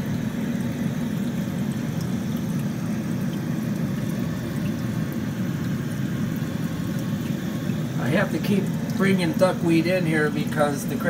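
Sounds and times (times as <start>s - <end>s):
aquarium filter pump hum: 0.0s - 11.0s.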